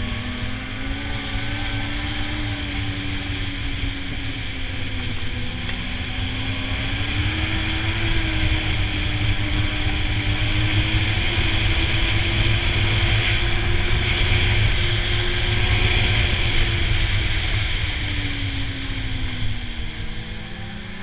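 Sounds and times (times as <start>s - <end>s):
snowmobile engine running: 0.0s - 21.0s
steady rushing noise: 0.0s - 21.0s.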